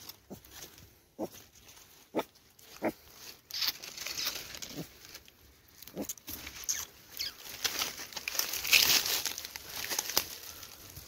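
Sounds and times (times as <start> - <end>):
rustle of dry leaves and twigs: 0.0 - 11.0.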